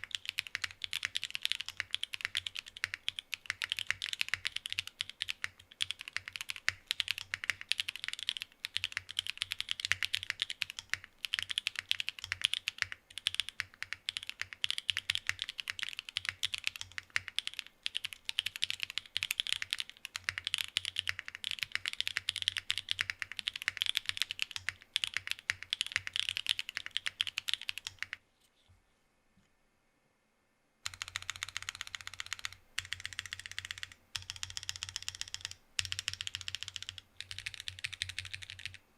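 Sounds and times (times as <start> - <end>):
mechanical keyboard typing: 0.0 - 28.2, 30.8 - 38.8.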